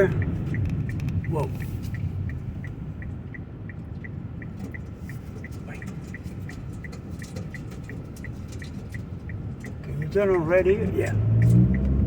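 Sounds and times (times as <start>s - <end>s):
dashboard ticking: 0.0s - 12.0s
road and engine rumble: 0.0s - 12.0s.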